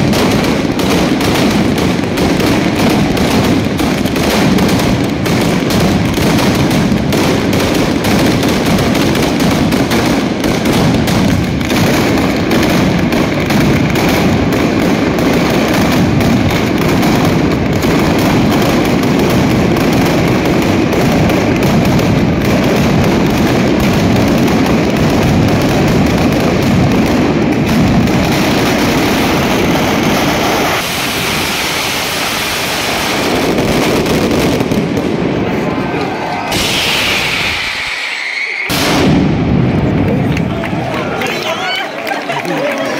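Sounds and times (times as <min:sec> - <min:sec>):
firecrackers crackling: 0:00.0 - 0:42.9.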